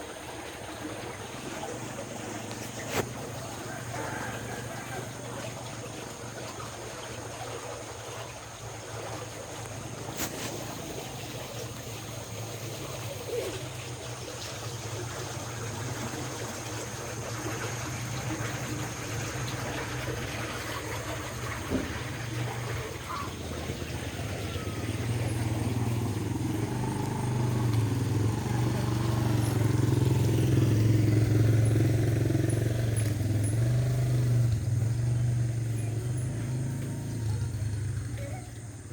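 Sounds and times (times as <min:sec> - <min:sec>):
low engine hum: 0:00.0 - 0:38.9
outdoor noise: 0:00.0 - 0:38.9.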